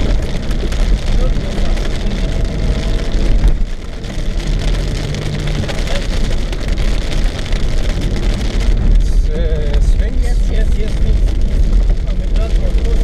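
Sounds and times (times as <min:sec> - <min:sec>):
moving car rumble: 0:00.0 - 0:13.0
rain on car windshield: 0:00.0 - 0:13.0.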